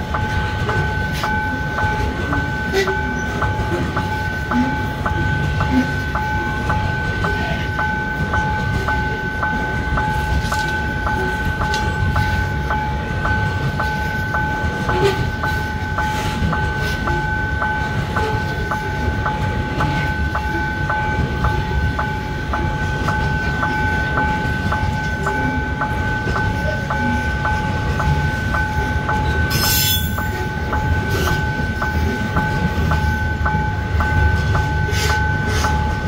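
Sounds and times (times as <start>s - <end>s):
freight train rumbling past: 0.0s - 36.0s
level-crossing warning signal ringing: 0.0s - 36.0s
train wheel clicks: 0.0s - 36.0s.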